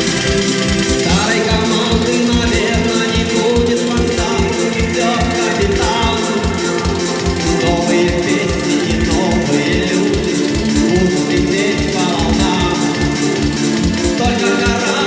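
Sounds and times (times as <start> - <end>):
instrumental backing with beat: 0.0 - 15.0
man singing into microphone: 1.0 - 15.0.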